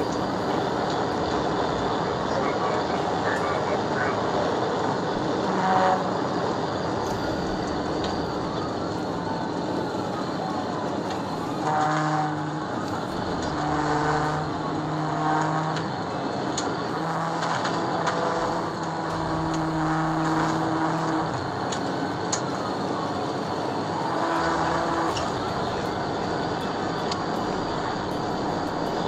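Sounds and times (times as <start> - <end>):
held siren tones: 0.0 - 29.0
road and engine noise: 0.0 - 29.0.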